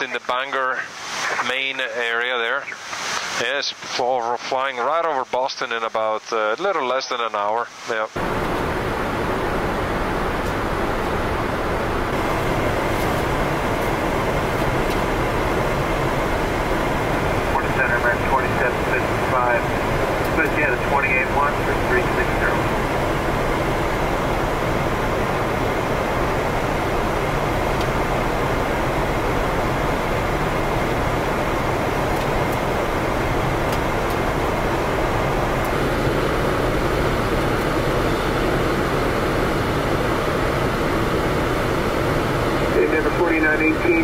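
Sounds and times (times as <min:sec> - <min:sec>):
airflow rush: 0:00.8 - 0:01.7, 0:08.2 - 0:43.7
air-conditioning hum: 0:08.2 - 0:44.0.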